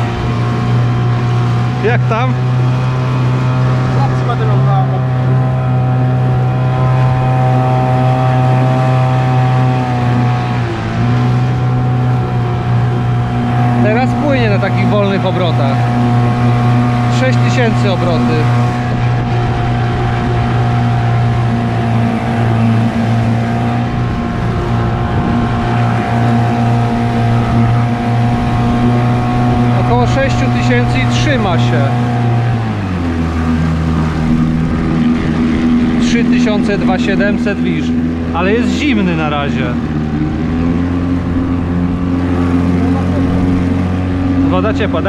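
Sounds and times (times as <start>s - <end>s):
boat wake washing: 0.0s - 45.0s
outboard motor running: 0.0s - 45.0s
water churning: 0.0s - 45.0s.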